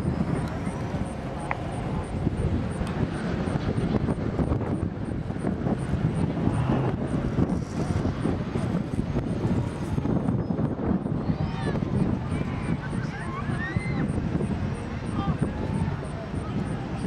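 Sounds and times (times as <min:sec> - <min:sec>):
low rumble of outdoor noise: 0:00.0 - 0:17.0.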